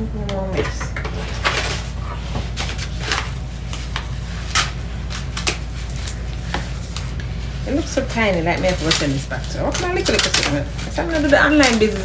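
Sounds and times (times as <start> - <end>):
steady low hum: 0.0 - 12.0
objects and packaging handled: 0.6 - 12.0.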